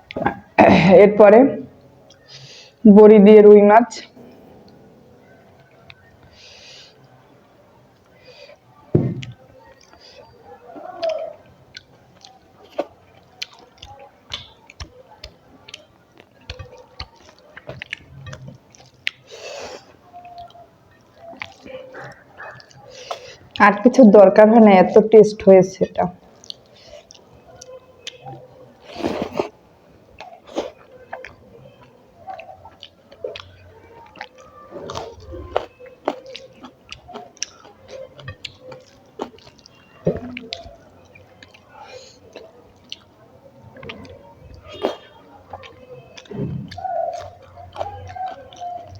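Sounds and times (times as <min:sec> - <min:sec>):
person chewing food: 0:02.0 - 0:02.8, 0:04.2 - 0:07.2, 0:07.9 - 0:23.6, 0:26.2 - 0:48.9.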